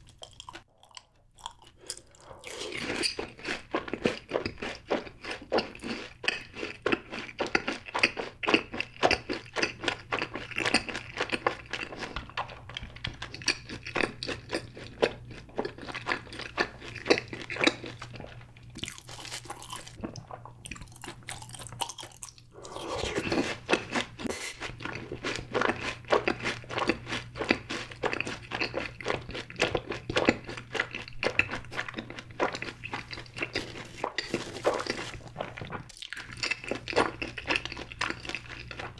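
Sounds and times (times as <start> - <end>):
crunching and chewing fried food: 0.0 - 38.9.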